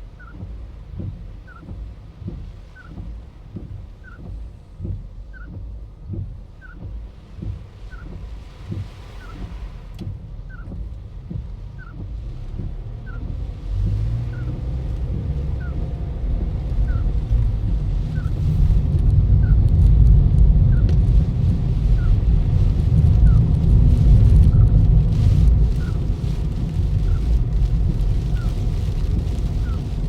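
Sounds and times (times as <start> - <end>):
car rumbling on the move: 0.0 - 30.0.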